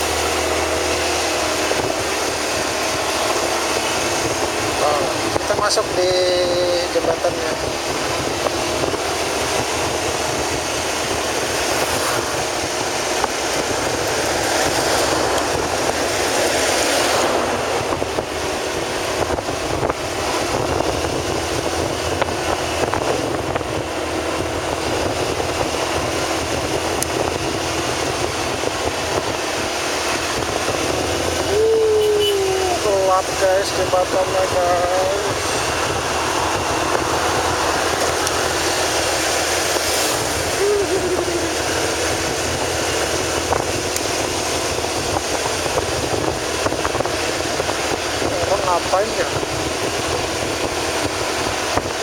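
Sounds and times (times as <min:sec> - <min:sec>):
vehicle road and wind noise: 0:00.0 - 0:52.0.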